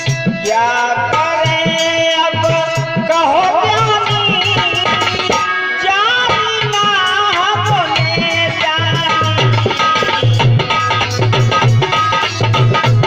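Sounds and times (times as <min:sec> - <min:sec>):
tabla beat: 0:00.0 - 0:13.0.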